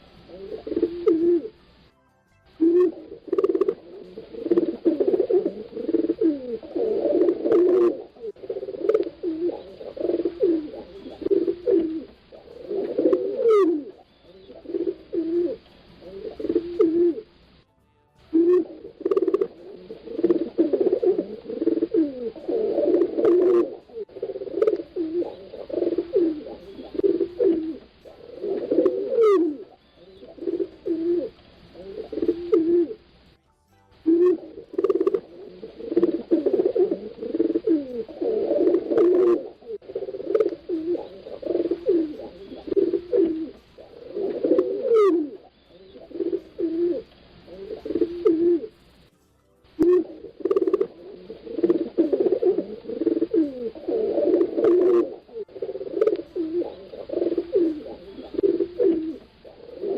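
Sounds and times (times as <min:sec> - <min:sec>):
pigeons cooing: 0:00.0 - 0:01.7, 0:02.6 - 0:17.6, 0:18.3 - 0:33.2, 0:34.0 - 0:49.1, 0:49.7 - 0:59.9.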